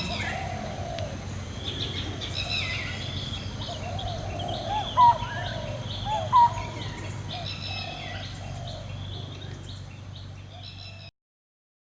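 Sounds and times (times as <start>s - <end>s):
low background hum: 0.0s - 11.0s
birds chirping: 0.0s - 11.1s
warbled bird calls: 0.0s - 11.1s.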